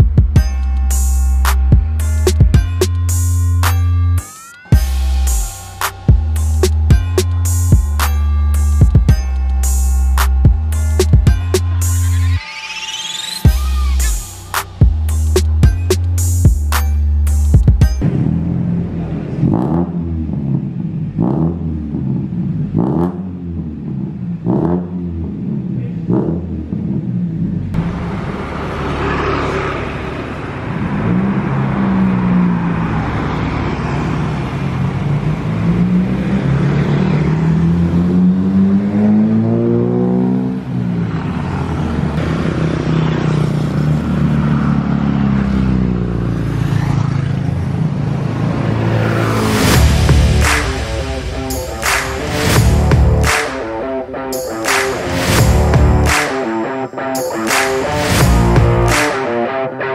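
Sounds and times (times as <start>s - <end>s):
car accelerating: 0.0s - 59.9s
car engine rev blips: 0.0s - 59.9s.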